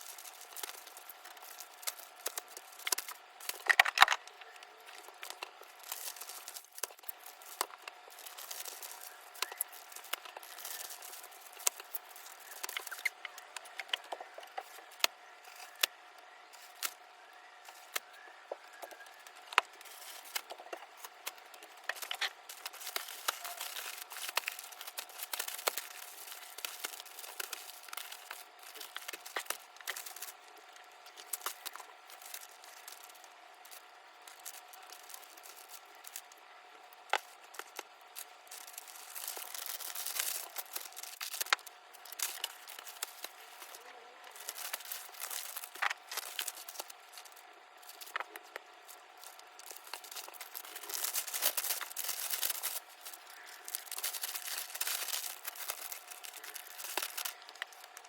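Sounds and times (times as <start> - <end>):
faint steady hum: 0.0 - 58.0
packing materials crinkling and tearing: 0.0 - 58.0.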